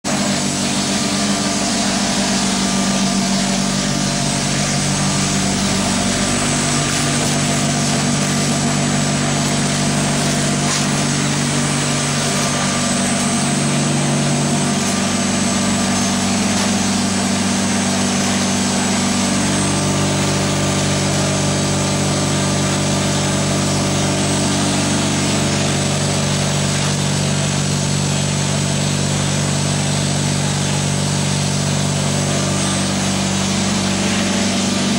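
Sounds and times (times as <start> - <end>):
motor and pump drone: 0.0 - 34.9.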